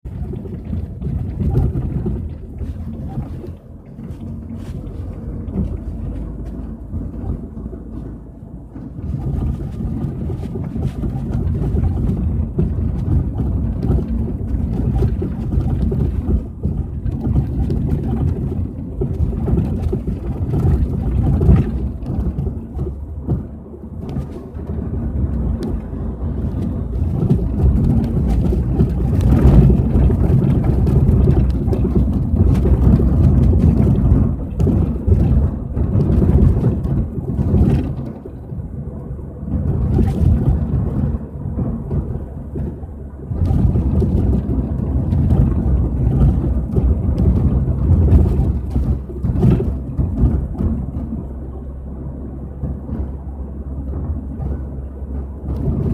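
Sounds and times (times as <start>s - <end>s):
car road rumble: 0.0s - 55.9s.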